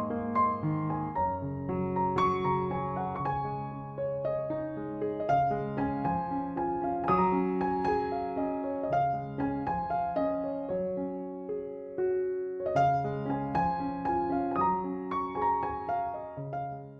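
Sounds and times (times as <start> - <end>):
gentle piano music: 0.0 - 16.9.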